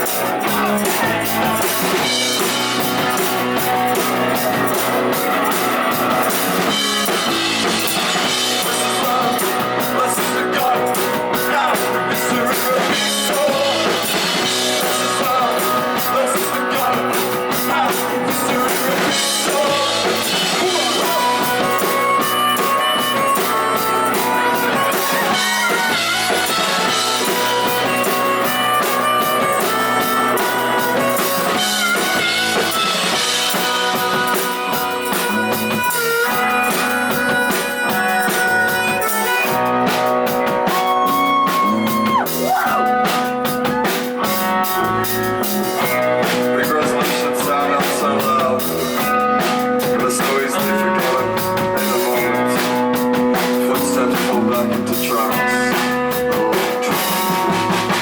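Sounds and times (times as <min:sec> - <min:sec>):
cymbal and drum beat: 0:00.0 - 0:58.0
indie rock band playing: 0:00.0 - 0:58.0.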